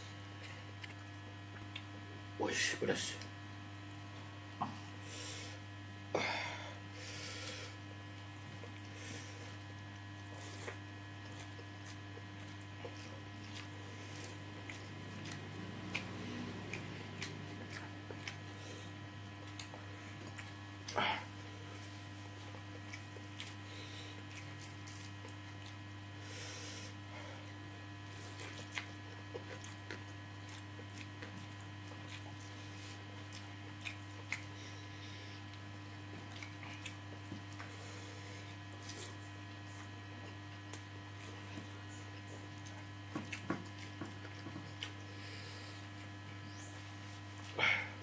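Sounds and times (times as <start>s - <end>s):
person chewing: 0.0s - 2.3s, 7.0s - 48.0s
electrical hum: 0.0s - 48.0s.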